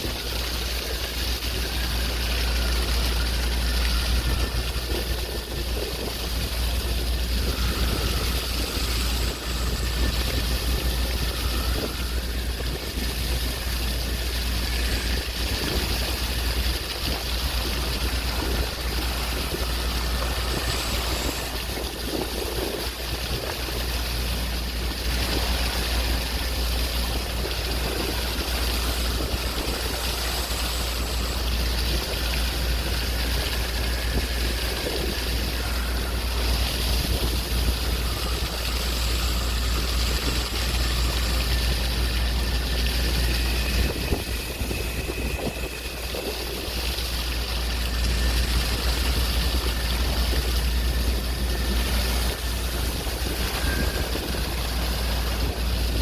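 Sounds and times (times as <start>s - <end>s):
constant low rumble: 0.0s - 56.0s
sea waves washing: 0.0s - 56.0s.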